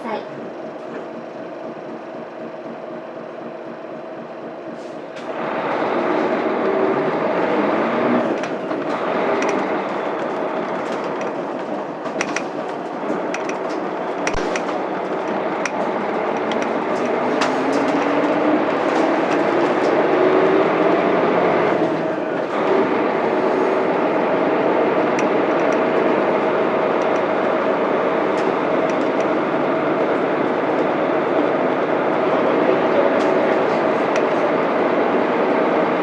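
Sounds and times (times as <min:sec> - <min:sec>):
bus body rattles and clicks: 0:00.0 - 0:36.0
diesel bus engine accelerating: 0:00.0 - 0:36.0.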